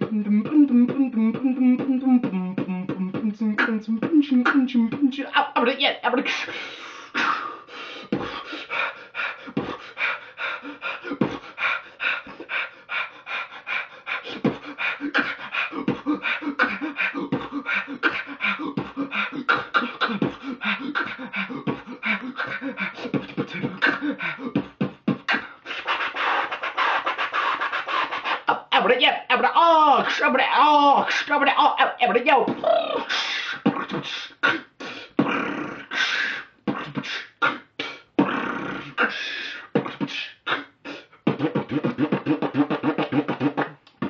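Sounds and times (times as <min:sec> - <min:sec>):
person beatboxing: 0:00.0 - 0:44.0.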